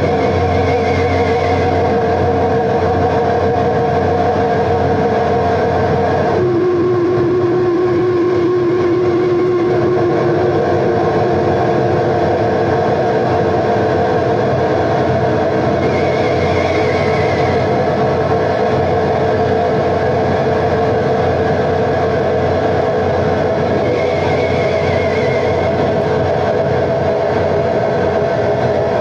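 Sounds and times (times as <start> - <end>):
experimental noise music drone: 0.0 - 29.0.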